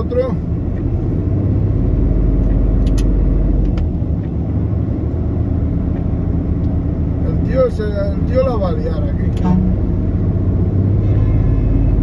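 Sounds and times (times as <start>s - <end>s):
truck diesel engine rumble: 0.0s - 12.0s.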